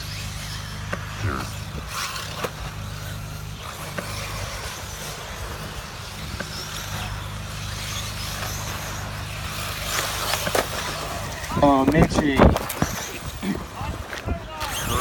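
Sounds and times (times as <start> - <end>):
steady low hum: 0.0 - 14.1
faint motor whines: 0.0 - 15.0
rc cars motors and tyres: 0.0 - 15.0.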